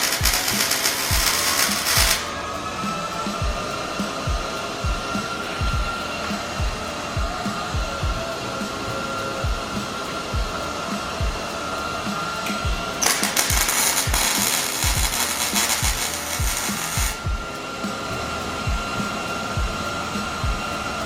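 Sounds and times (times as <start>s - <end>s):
background music with beat: 0.0s - 21.0s
steady hum: 0.0s - 21.0s
welding arc crackling: 0.0s - 21.0s.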